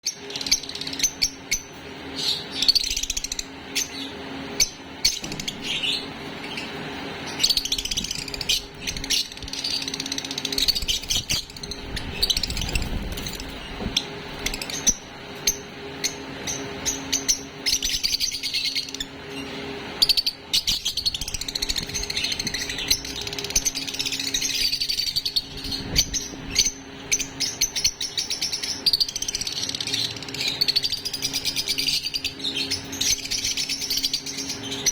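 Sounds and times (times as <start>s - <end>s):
baby lovebirds chirping: 0.1s - 34.9s
steady low hum: 0.1s - 34.9s.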